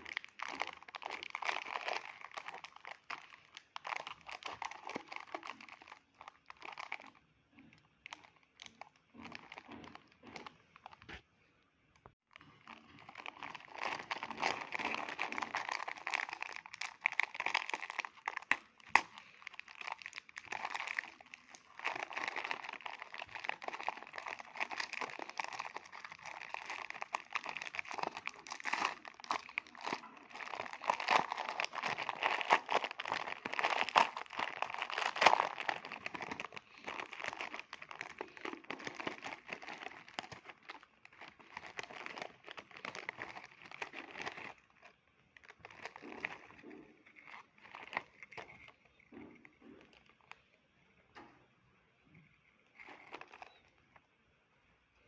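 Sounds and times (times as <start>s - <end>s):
plastic packet crinkling: 0.0s - 7.2s, 8.0s - 11.1s, 12.3s - 50.4s, 52.7s - 53.7s.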